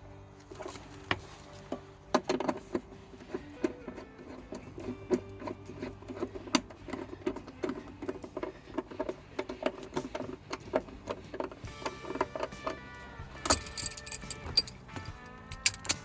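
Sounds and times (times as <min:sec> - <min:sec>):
hand tools clicking on metal parts: 0:00.4 - 0:16.0.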